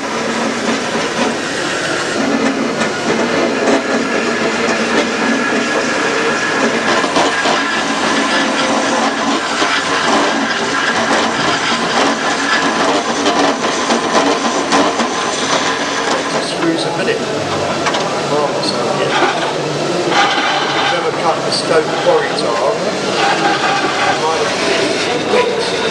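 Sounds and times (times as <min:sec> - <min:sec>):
lathe tool cutting spinning wood: 0:00.0 - 0:25.9.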